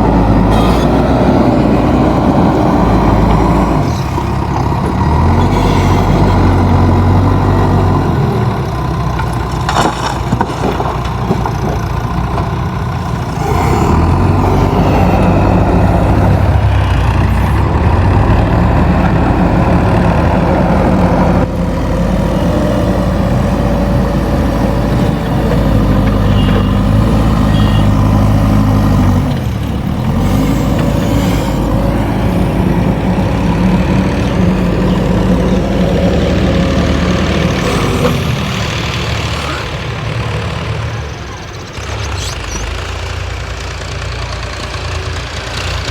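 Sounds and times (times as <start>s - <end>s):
diesel engine under changing load: 0.0s - 45.9s.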